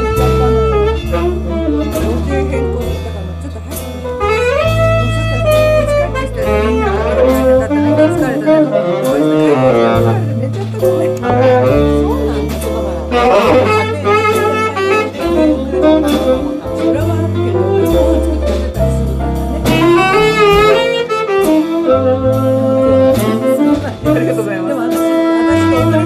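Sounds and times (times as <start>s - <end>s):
guitar chords: 0.0s - 26.0s
saxophone melody: 0.0s - 26.0s
upright bass notes: 0.0s - 26.0s.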